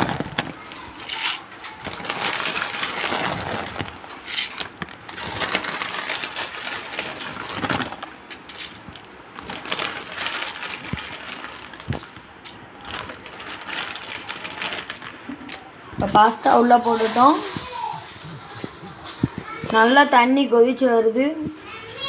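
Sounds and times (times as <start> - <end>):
water boiling and bubbling: 0.0 - 20.0.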